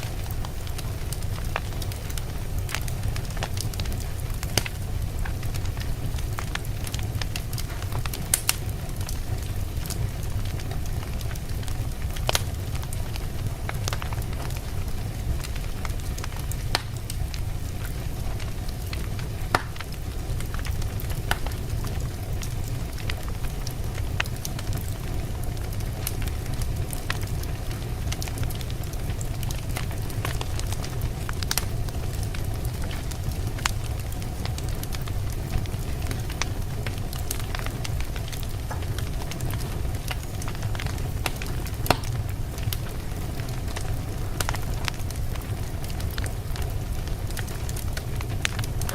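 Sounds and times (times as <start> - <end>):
logs crackling and popping: 0.0 - 48.9
low rumble of flames: 0.0 - 48.9.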